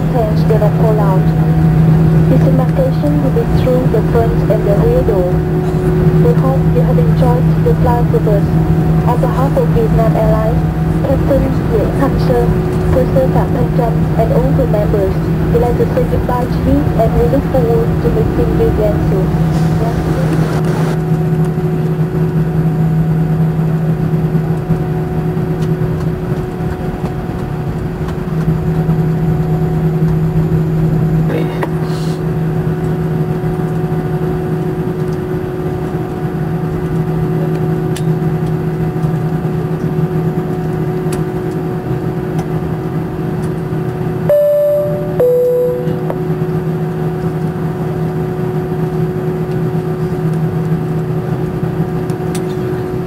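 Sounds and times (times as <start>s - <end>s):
jet engines droning in cabin: 0.0s - 53.0s.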